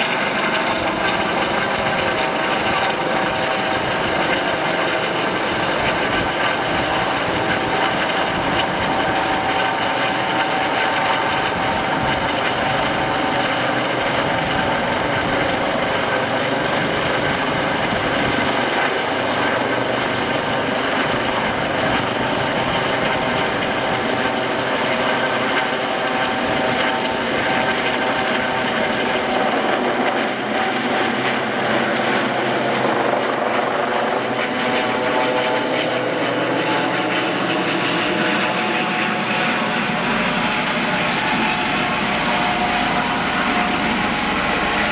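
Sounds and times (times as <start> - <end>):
helicopter rotor noise: 0.0 - 44.9
high turbine whine: 0.0 - 44.9.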